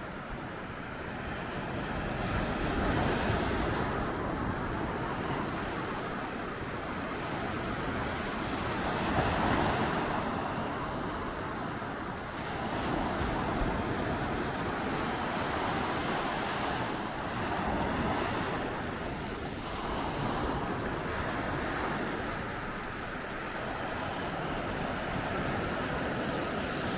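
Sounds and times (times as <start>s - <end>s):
sea waves breaking on beach: 0.0s - 26.9s.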